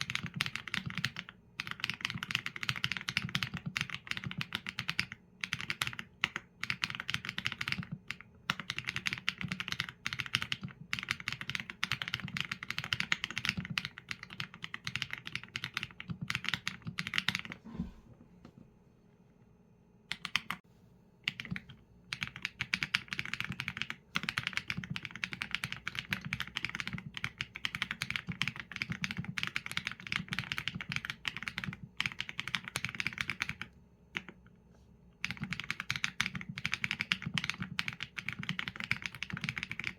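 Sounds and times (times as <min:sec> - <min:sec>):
mechanical keyboard typing: 0:00.0 - 0:17.6, 0:20.1 - 0:20.6, 0:21.3 - 0:34.4, 0:35.2 - 0:39.9.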